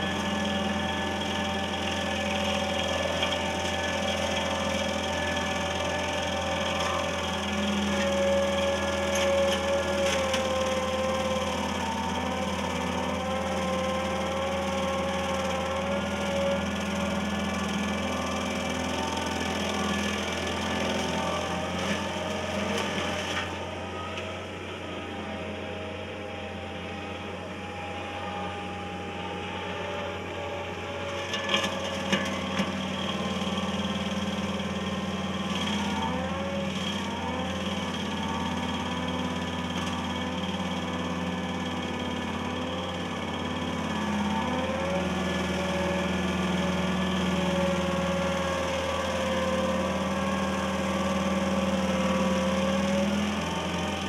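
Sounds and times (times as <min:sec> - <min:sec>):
stump grinder engine: 0:00.0 - 0:54.0.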